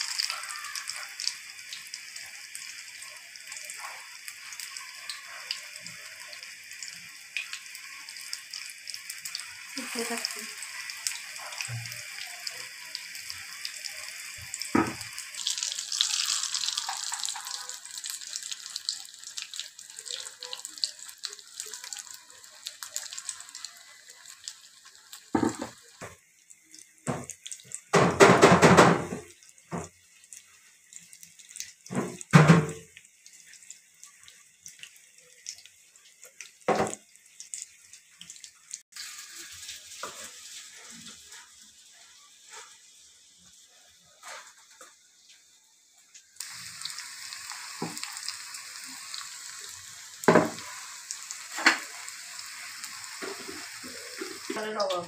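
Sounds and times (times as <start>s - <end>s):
hot oil sizzling: 0.0s - 55.0s.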